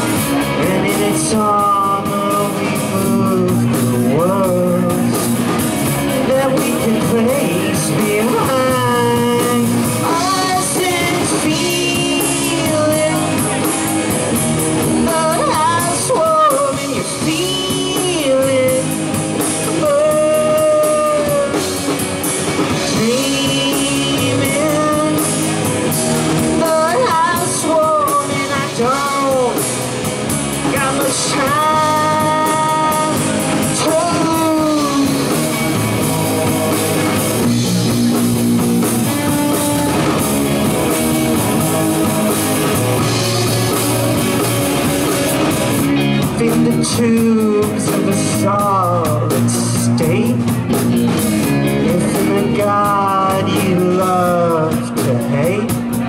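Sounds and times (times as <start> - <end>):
bending lead guitar line: 0.0 - 56.0
drum kit: 0.0 - 56.0
electric guitars: 0.0 - 56.0.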